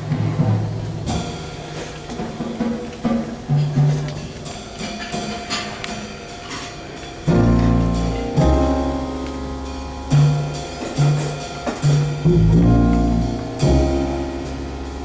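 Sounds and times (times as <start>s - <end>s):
jazz big band playing: 0.0s - 15.0s.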